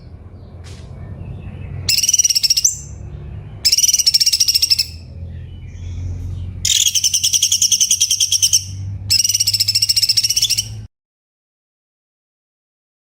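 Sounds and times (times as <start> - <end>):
bird singing trills: 0.0 - 10.9.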